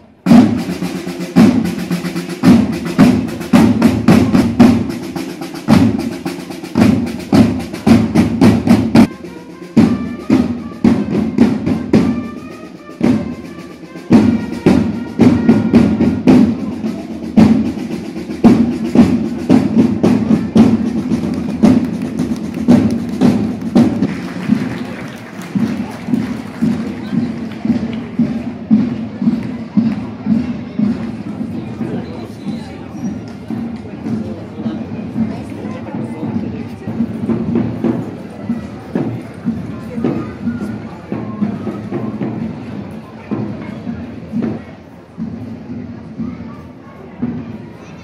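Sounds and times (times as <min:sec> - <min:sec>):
marching drum cadence with rolls: 0:00.0 - 0:48.0.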